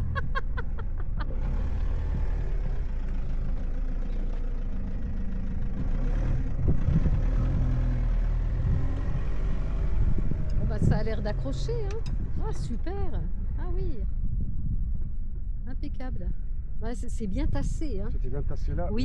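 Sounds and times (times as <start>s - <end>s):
van engine running: 0.0s - 19.0s.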